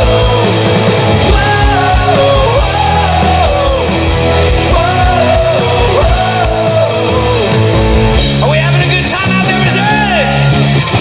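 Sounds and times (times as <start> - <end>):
drum beat: 0.0 - 9.8
bass: 0.0 - 11.0
rock band playing: 0.0 - 11.0.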